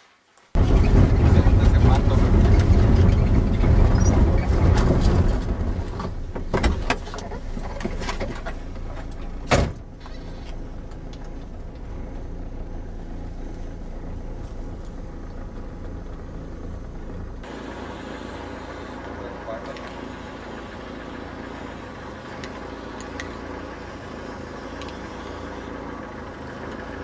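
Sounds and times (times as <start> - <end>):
vehicle rumbling on dirt road: 0.5 - 27.0.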